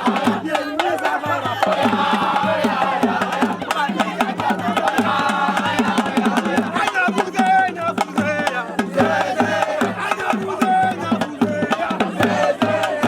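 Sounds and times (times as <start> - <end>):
loud fast drumming: 0.0 - 13.0
voices singing or calling: 0.0 - 13.0.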